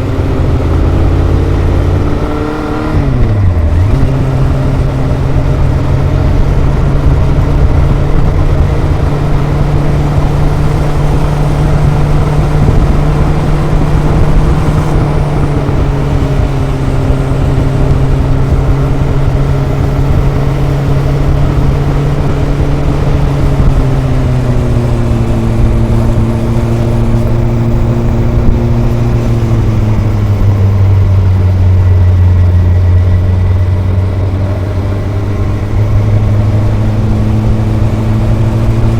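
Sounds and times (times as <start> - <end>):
motorcycle engine and exhaust: 0.0 - 38.9
road rumble: 0.0 - 38.9
wind: 0.0 - 38.9.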